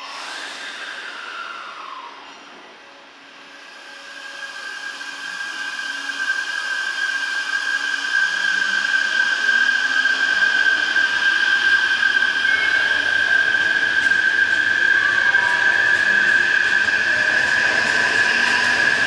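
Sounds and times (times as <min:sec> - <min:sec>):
electric train approaching: 0:00.0 - 0:19.0.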